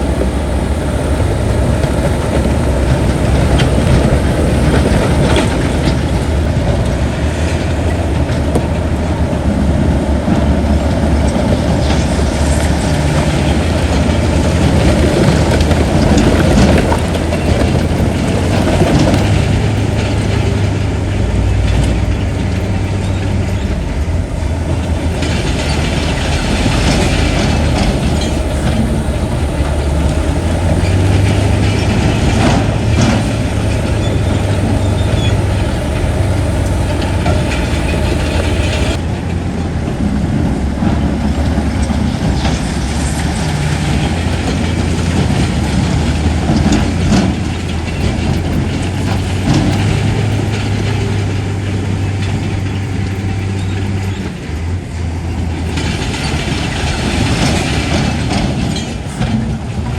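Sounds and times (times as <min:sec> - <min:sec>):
bulldozer diesel engine running: 0:00.0 - 0:59.9
steel tracks rattling and clanking: 0:00.0 - 0:59.9.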